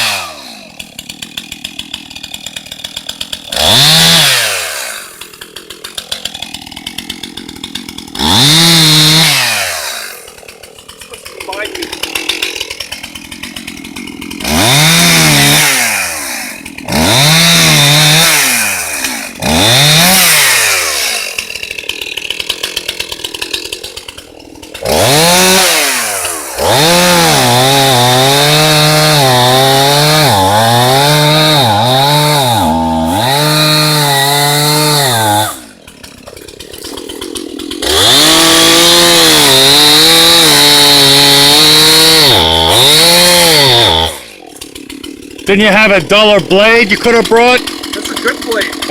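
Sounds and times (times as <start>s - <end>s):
chainsaw revving and cutting wood: 0.0s - 48.9s.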